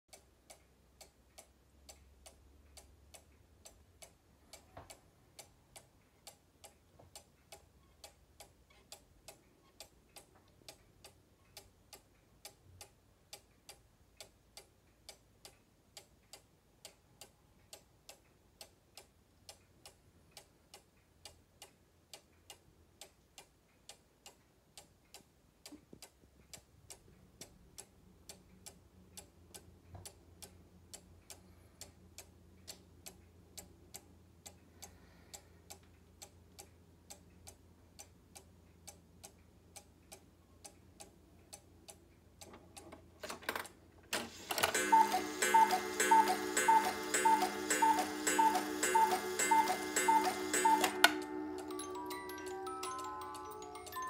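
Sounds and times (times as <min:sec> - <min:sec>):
clock ticking faintly: 0:00.1 - 0:54.0.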